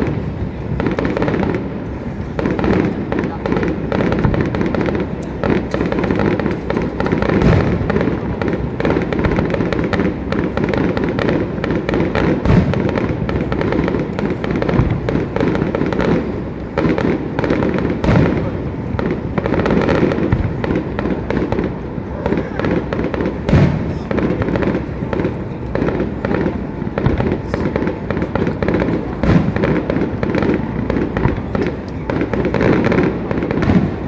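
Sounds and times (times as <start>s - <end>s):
fireworks bursts and crackling: 0.0s - 34.0s
heavy firework booms: 0.0s - 34.0s.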